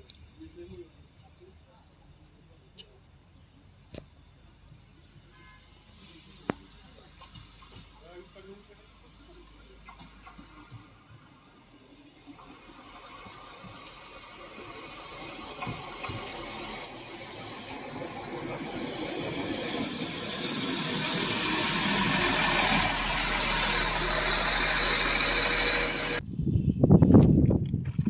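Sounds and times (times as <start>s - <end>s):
diesel railbus engine arriving: 0.0s - 26.2s.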